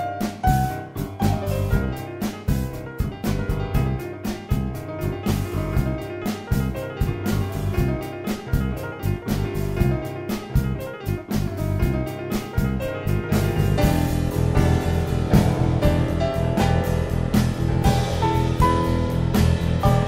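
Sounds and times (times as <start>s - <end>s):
bass: 0.0s - 20.0s
drum kit: 0.0s - 20.0s
piano: 0.0s - 20.0s.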